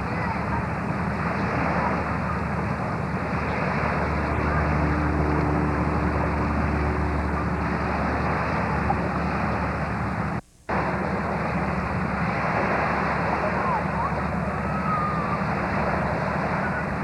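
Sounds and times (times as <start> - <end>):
low steady hum: 0.0 - 17.0
steady rushing noise: 0.0 - 17.0.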